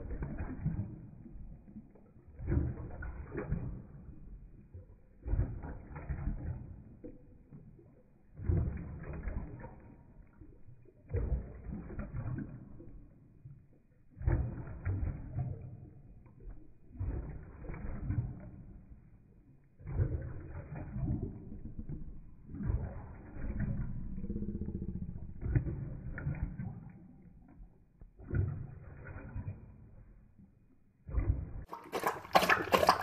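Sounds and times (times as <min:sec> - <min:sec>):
dog lapping water: 0:00.0 - 0:33.0.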